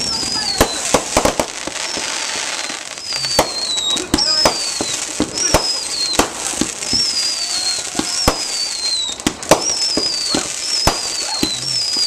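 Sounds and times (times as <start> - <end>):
firework whistles falling in pitch: 0.0 - 12.0
fireworks bangs: 0.0 - 12.0.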